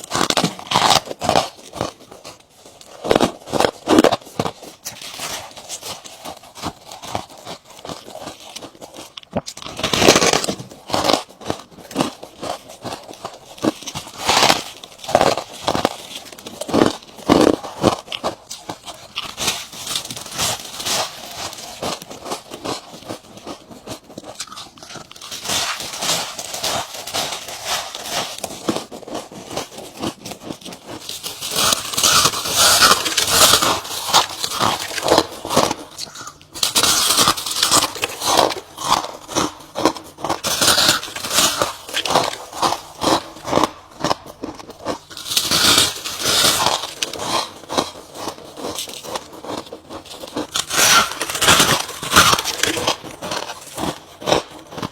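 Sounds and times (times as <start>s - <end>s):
ice crunching between teeth: 0.0s - 54.9s.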